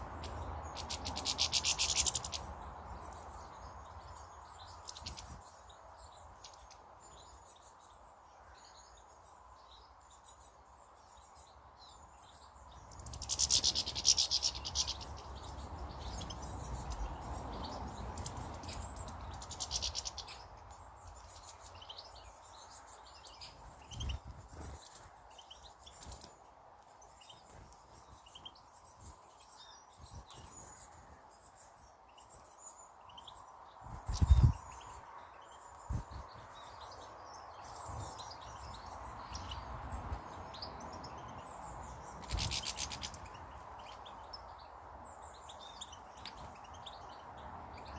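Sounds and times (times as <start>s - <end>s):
garden birds chirping: 0.0s - 47.9s.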